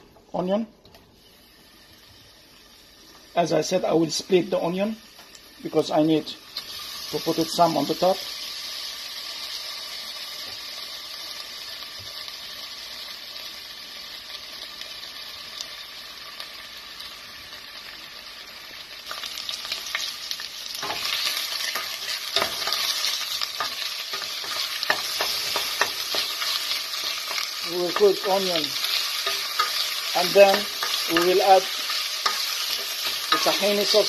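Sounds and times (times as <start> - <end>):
onions sizzling in oil: 1.1 - 34.0.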